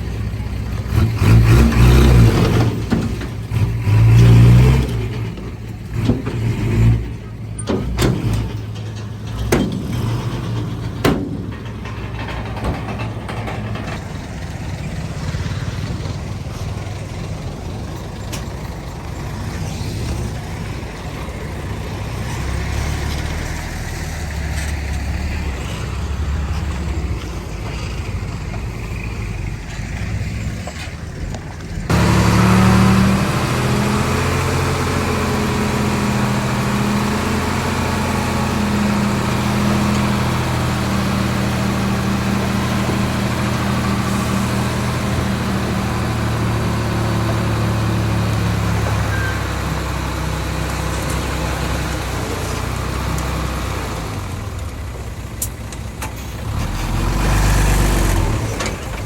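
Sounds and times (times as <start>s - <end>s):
diesel machinery engine hum: 0.0s - 59.0s.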